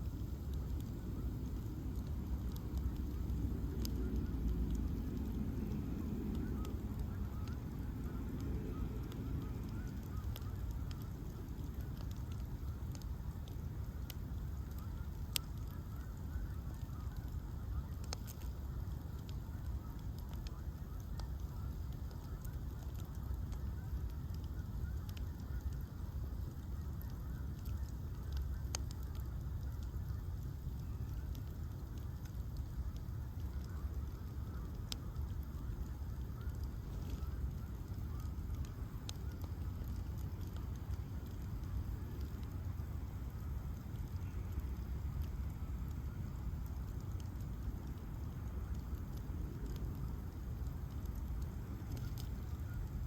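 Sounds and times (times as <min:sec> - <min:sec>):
bonfire burning with low rumble: 0:00.0 - 0:53.0
fire crackles and pops: 0:00.0 - 0:53.0.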